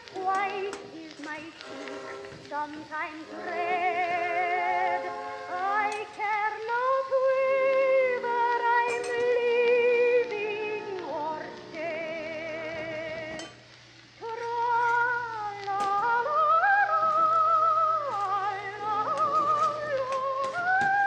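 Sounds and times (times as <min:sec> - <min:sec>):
old song recording with vibrato: 0:00.0 - 0:21.0.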